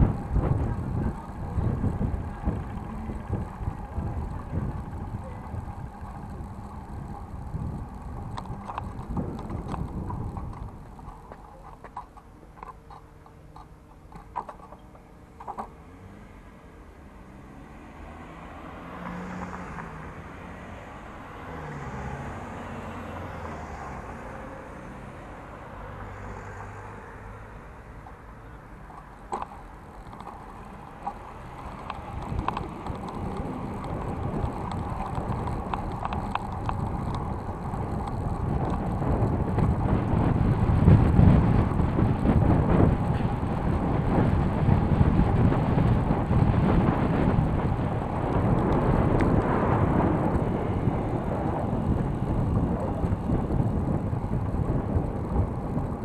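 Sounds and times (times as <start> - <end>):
bike tyres rumbling and rattling: 0.0 - 16.1, 16.9 - 56.0
low traffic hum: 0.0 - 56.0.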